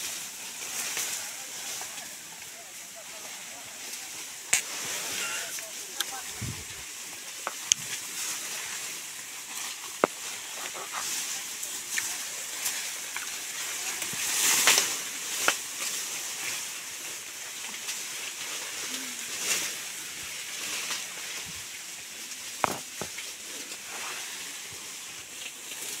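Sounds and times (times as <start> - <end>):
grass and leaves rustling: 0.0 - 26.0.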